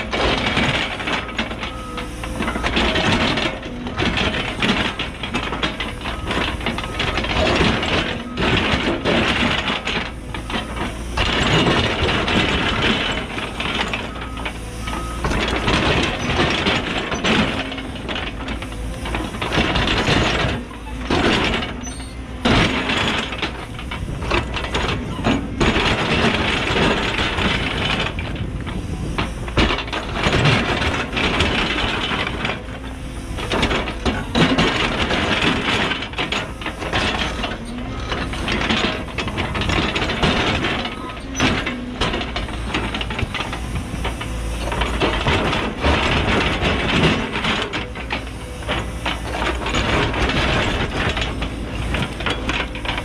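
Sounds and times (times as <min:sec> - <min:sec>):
excavator diesel engine under load: 0:00.0 - 0:53.0.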